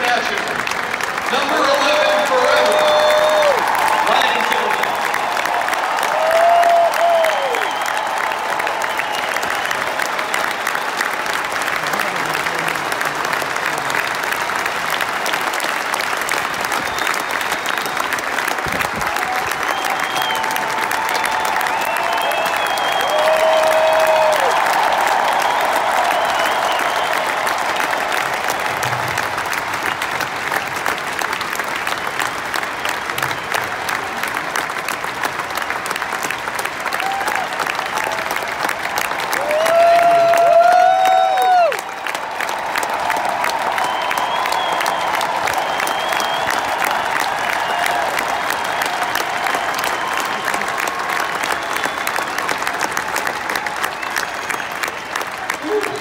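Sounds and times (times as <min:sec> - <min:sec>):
stadium crowd applauding: 0:00.0 - 0:56.0.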